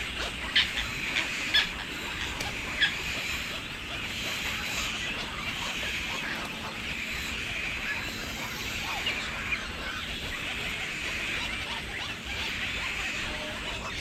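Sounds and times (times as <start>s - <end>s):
many birds chirping and squawking: 0.0s - 14.0s.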